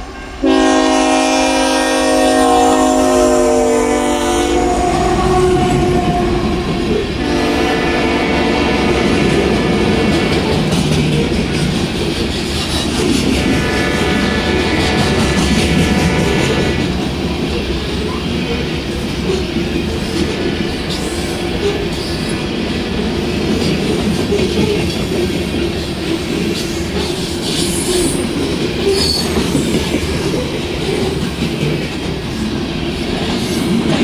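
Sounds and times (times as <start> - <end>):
freight train rolling past: 0.0 - 34.0.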